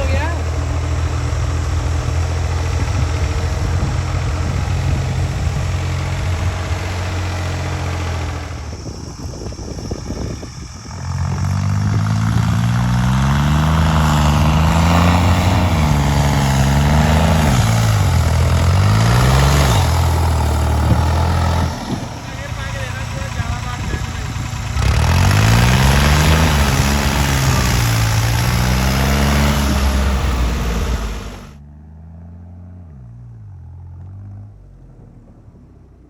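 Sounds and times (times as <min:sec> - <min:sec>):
tractor engine running: 0:00.0 - 0:31.6.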